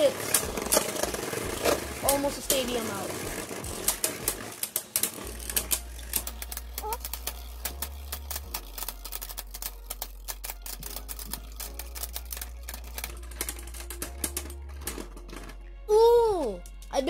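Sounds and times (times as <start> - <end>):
spinning tops clashing and scraping: 0.0 - 15.7, 16.5 - 17.0.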